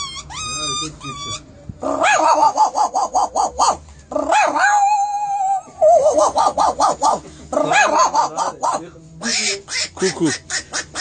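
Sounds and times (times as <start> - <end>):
man imitating dog yips: 0.0 - 11.0.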